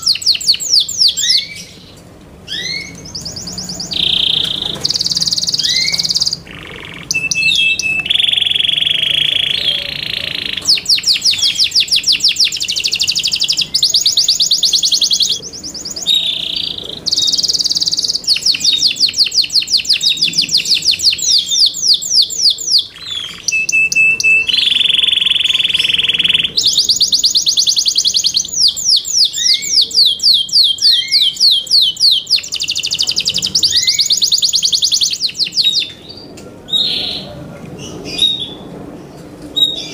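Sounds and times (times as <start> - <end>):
canary singing trills: 0.0 - 38.7.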